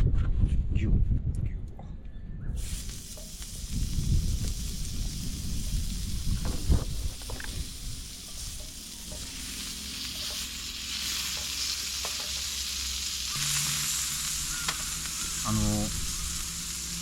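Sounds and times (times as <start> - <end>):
beef sizzling on a grill: 2.6 - 17.0.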